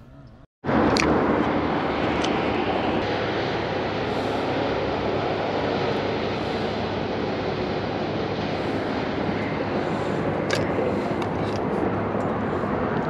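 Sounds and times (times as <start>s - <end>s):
boat motor drone: 0.0s - 13.0s.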